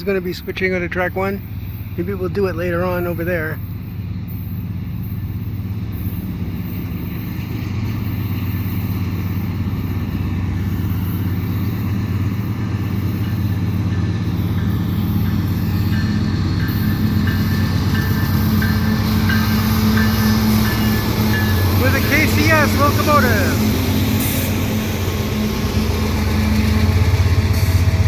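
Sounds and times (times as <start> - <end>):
locomotive engine drone: 0.0 - 28.0.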